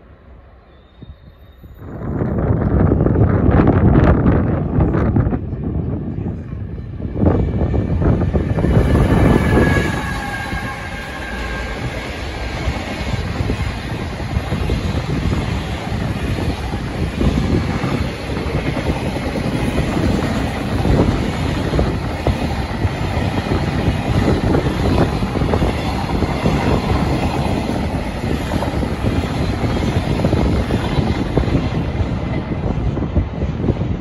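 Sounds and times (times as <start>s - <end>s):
train wheels rumbling on rails: 0.9s - 34.0s.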